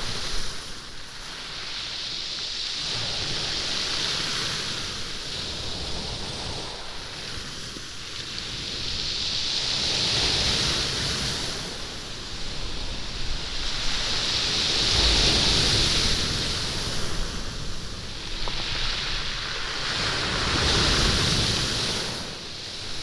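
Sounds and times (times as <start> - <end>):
waves washing up stony beach: 0.0 - 23.0.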